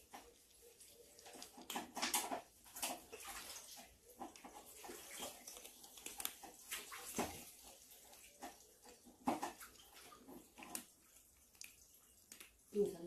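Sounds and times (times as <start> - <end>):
kittens crunching dry kibble: 0.0 - 13.0.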